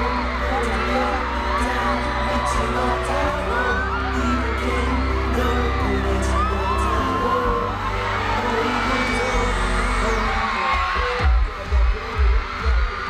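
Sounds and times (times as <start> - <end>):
crowd screaming and cheering: 0.0 - 13.0
pop music over sound system: 0.0 - 13.0.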